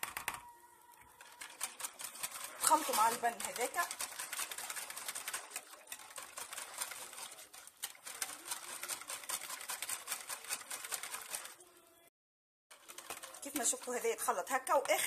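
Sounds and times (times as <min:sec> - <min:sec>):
wire whisk beating in a bowl: 0:01.0 - 0:11.6, 0:12.7 - 0:15.0.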